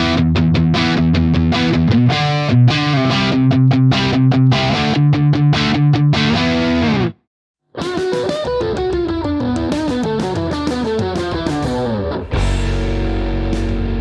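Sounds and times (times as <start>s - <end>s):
crunchy electric guitar: 0.0s - 7.2s, 7.8s - 14.0s.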